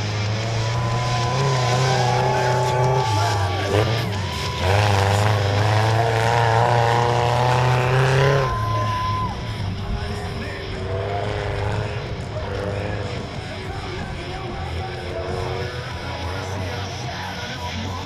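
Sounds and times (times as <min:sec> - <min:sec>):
small truck engine revving: 0:00.0 - 0:18.0.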